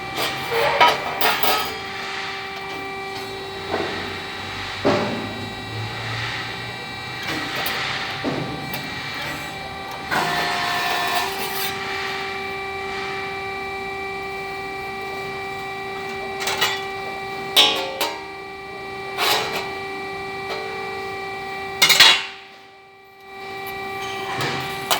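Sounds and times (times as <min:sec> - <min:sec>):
steady machine hum: 0:00.0 - 0:24.9.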